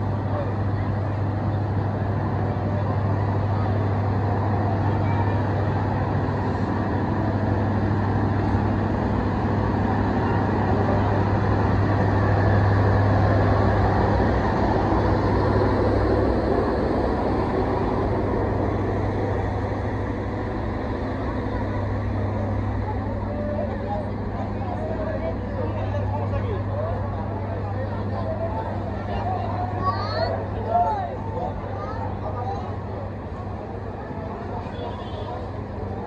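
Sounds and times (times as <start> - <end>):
diesel generator drone: 0.0 - 36.0.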